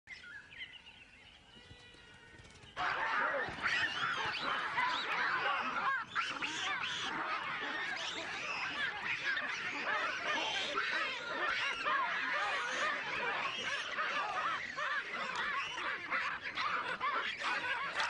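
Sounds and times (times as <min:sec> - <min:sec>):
baboons screaming and barking: 0:01.8 - 0:18.0.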